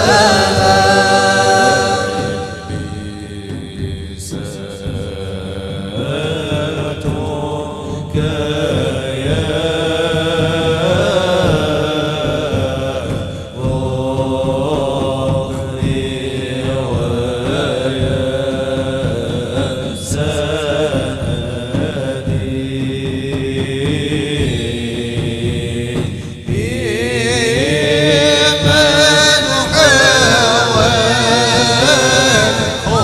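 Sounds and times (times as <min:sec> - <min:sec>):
group devotional chanting: 0:00.0 - 0:33.0.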